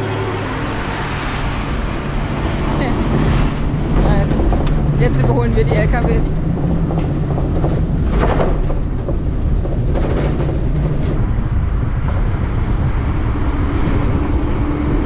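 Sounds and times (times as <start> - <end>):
low steady drone: 0.0 - 15.0
road noise: 0.0 - 15.0
wind rush: 0.0 - 15.0.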